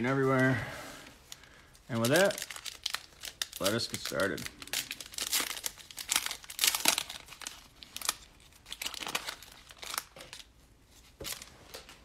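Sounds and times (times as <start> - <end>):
plastic wrapper crinkling and tearing: 1.2 - 10.6, 11.2 - 11.9.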